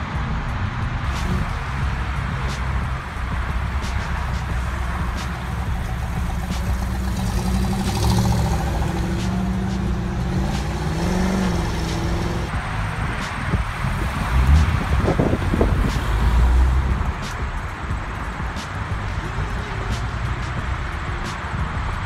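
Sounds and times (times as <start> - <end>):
another car engine: 0.0 - 22.0
car accelerating: 0.0 - 22.0.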